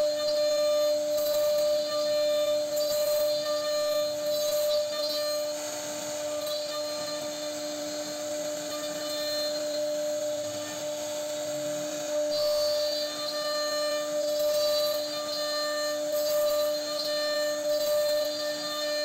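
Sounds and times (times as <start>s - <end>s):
bit rasping through wood: 0.0s - 19.0s
router spindle whine: 0.0s - 19.0s.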